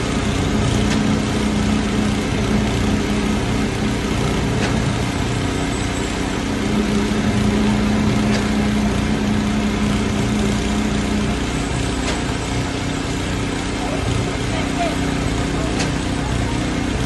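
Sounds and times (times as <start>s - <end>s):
machinery engine droning: 0.0s - 17.0s.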